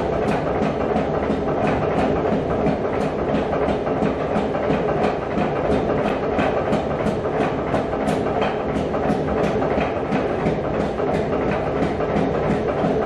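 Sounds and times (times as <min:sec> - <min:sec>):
machine clattering: 0:00.0 - 0:13.0.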